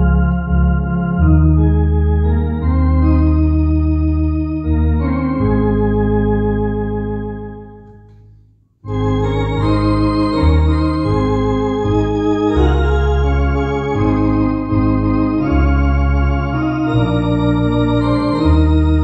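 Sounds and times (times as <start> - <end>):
electronic organ playing a hymn: 0.0 - 8.2, 8.8 - 19.0.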